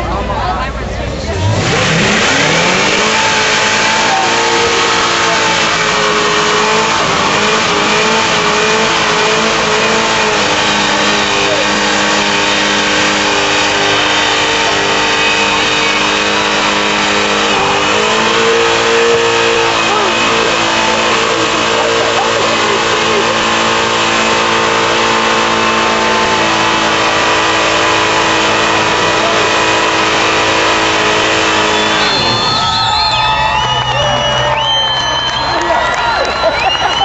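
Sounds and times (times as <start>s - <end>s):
car engine at high revs: 0.0s - 37.0s.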